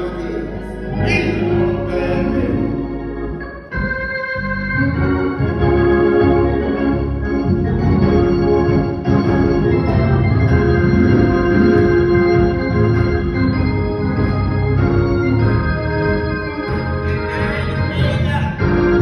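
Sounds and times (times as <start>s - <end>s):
organ playing sustained chords: 0.0s - 19.0s.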